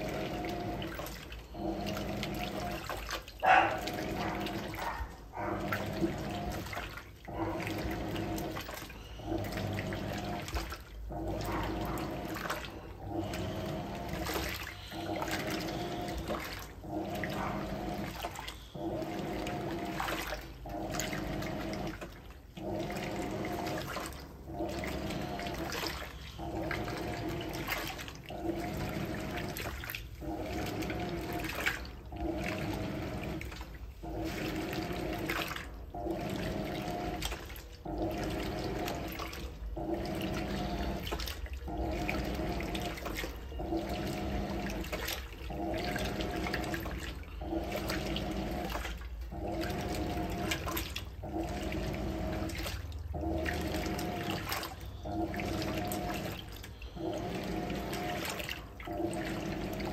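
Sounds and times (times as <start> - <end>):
washing machine motor humming: 0.0 - 59.9
water and clothes sloshing: 0.0 - 59.9.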